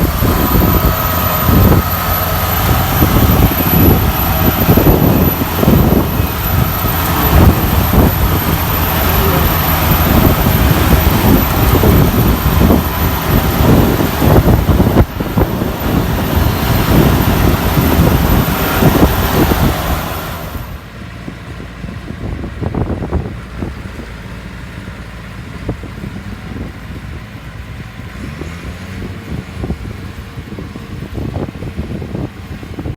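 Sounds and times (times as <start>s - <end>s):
combine harvester running: 0.0s - 32.9s.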